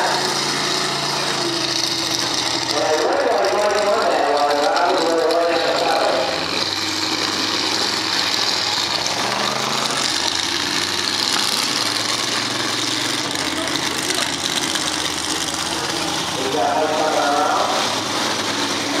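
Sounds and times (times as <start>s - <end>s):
distant truck engines droning: 0.0s - 19.0s.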